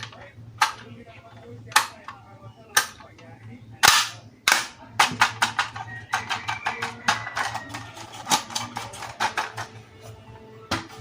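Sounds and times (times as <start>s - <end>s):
plastic parts clicking: 0.0s - 9.8s.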